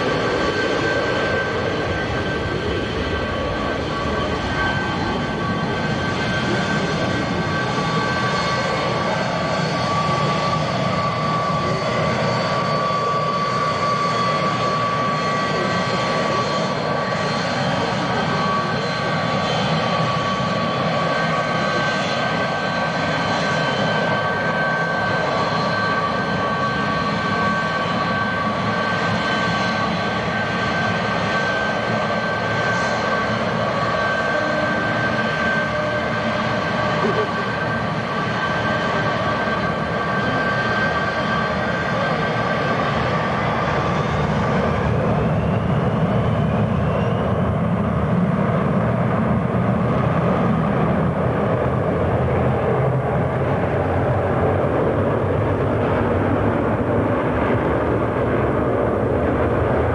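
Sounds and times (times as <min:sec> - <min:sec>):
jet engines roaring and whining: 0:00.0 - 0:59.9.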